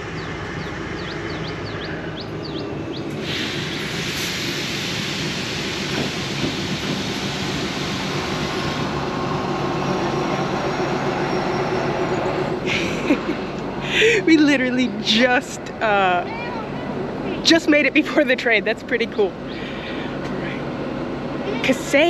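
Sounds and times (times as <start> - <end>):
train rumbling across bridge: 0.0 - 22.0.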